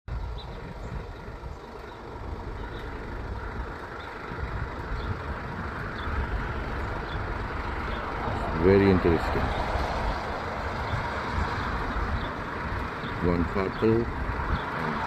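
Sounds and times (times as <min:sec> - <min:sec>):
road traffic rush: 0:00.0 - 0:15.0
low rumble: 0:00.1 - 0:13.0.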